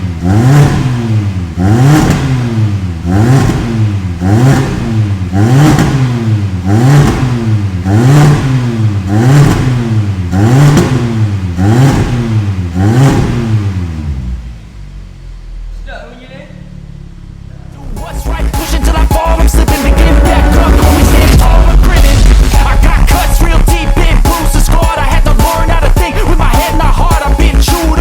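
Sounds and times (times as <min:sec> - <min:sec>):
engine revving in quick blips: 0:00.1 - 0:14.6, 0:17.5 - 0:26.8.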